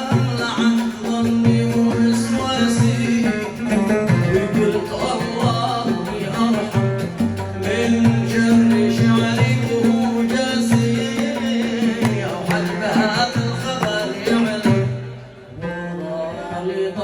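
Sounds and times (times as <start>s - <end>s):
hand drum rhythm: 0.0s - 15.2s
plucked strings: 0.0s - 15.3s.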